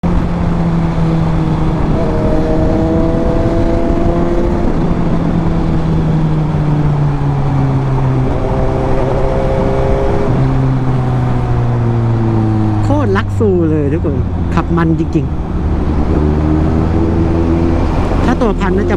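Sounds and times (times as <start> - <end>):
motorcycle engine and exhaust: 0.0 - 18.9.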